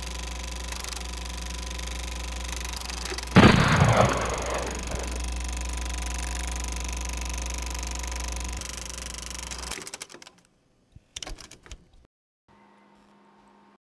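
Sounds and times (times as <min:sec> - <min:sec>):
low mechanical hum: 0:00.0 - 0:13.8.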